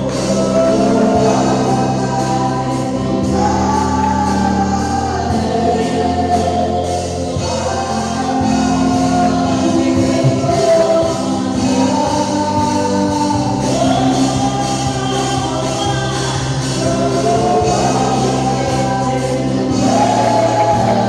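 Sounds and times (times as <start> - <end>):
bass notes: 0.0 - 21.0
gospel choir singing: 0.0 - 21.0.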